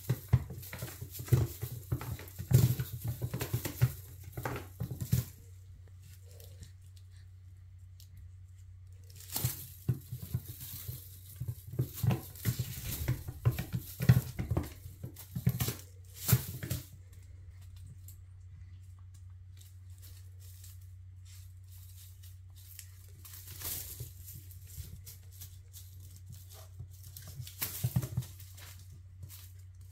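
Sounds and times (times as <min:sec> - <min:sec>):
foil streamers rustling and crinkling: 0:00.0 - 0:29.9.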